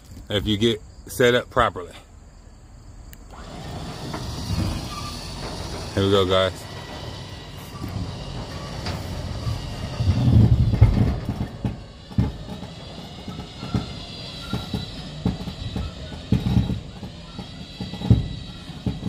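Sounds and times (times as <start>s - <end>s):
low rumble with clunks: 3.1s - 19.0s.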